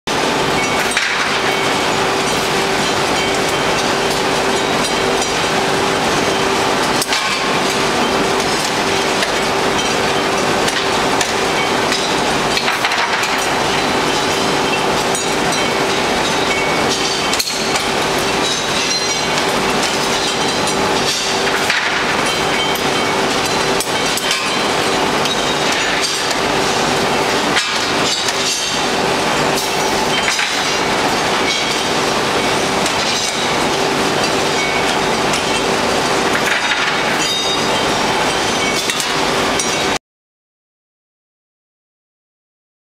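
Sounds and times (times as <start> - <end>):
machine hum: 0.1 - 40.0.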